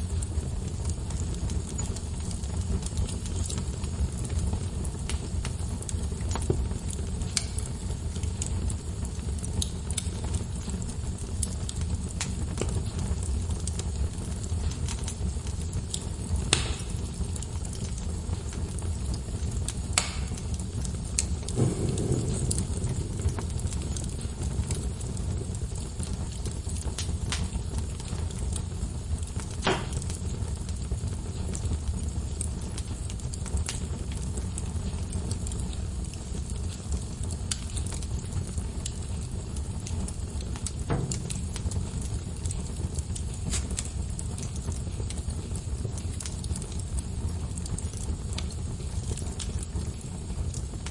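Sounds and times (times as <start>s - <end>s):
fire flames rumbling: 0.0s - 50.9s
logs crackling and popping: 0.0s - 50.9s.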